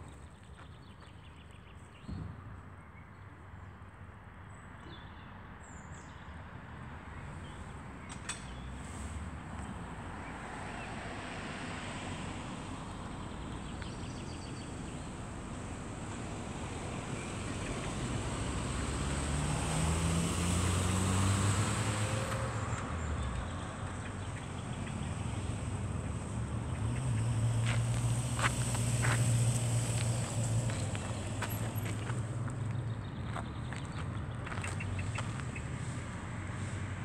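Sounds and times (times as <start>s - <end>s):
steady outdoor noise: 0.0s - 37.0s
passing vehicle engine hum: 7.2s - 37.0s.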